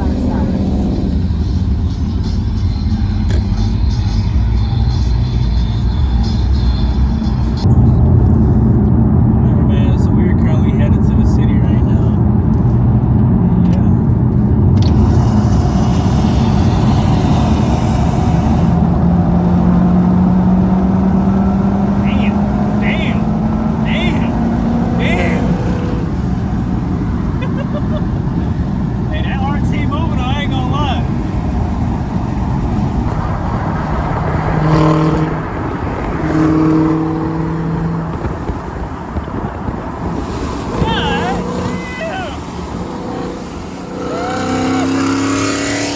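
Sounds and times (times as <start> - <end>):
car engine and road rumble: 0.0 - 45.9
low drone climbing in pitch: 0.0 - 45.9.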